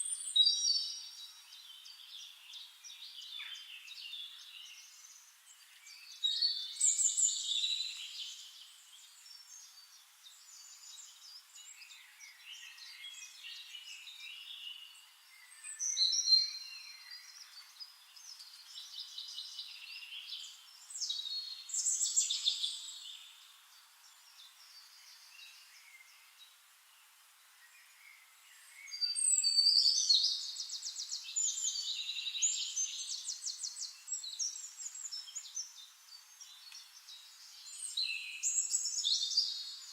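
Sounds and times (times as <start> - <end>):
birds singing and chirping: 0.0 - 26.6, 27.6 - 39.9.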